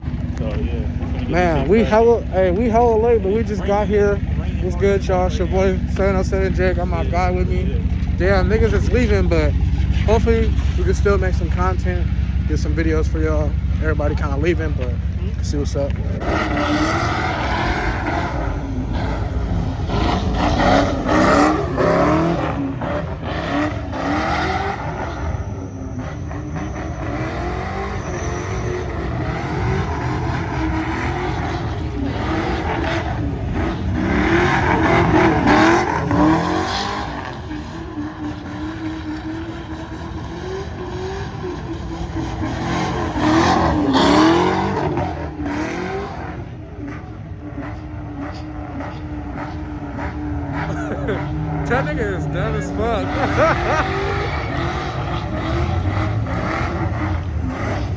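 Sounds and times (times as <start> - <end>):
car engine revving hard: 0.0 - 57.9
tire noise: 0.0 - 57.9.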